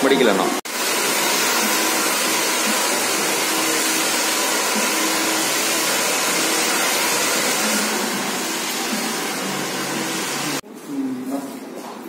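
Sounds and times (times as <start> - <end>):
hair dryer blowing: 0.7 - 10.6.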